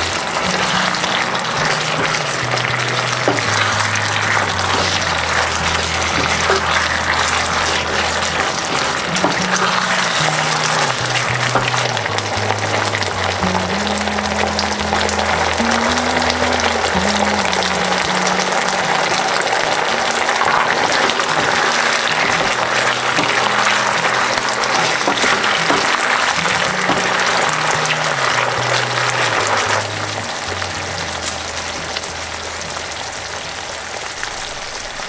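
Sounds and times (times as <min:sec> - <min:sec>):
background music with bass line: 0:00.0 - 0:19.6, 0:21.3 - 0:34.3
sauce sizzling in a pan: 0:00.0 - 0:35.0.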